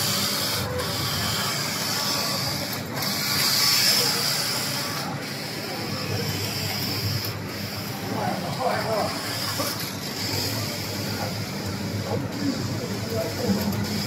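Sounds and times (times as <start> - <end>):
knitting machine whirring: 0.0 - 14.0.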